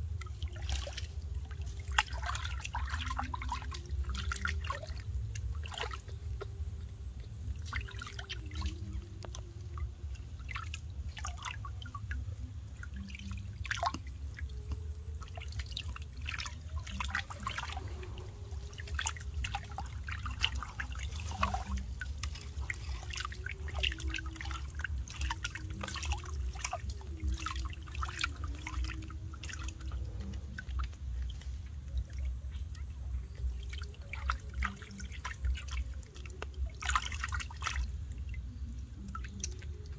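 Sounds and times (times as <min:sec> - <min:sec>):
steady low rumble: 0:00.0 - 0:39.9
water splashing: 0:00.0 - 0:39.9.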